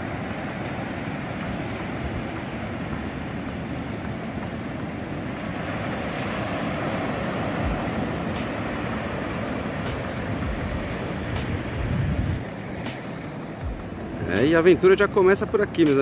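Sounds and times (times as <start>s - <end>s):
wind buffeting microphone: 0.0s - 15.2s
ocean surf breaking on beach: 0.0s - 16.0s.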